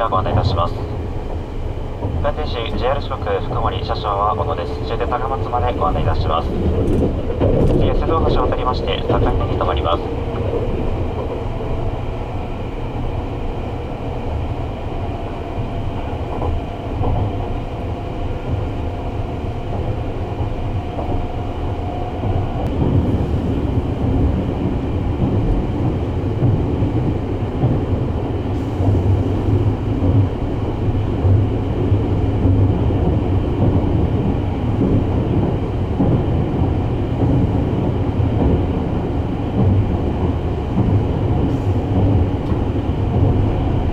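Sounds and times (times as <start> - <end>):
train rumble: 0.0 - 43.9.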